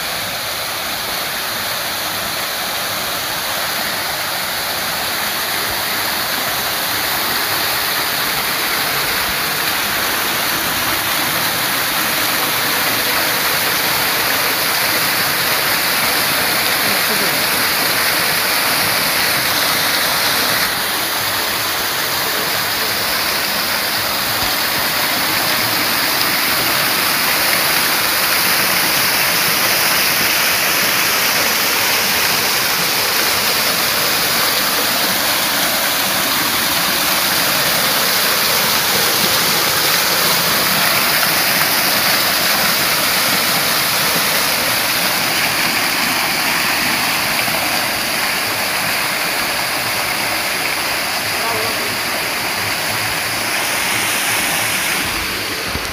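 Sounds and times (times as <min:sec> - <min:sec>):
waterfall pouring and splashing: 0:00.0 - 0:55.9.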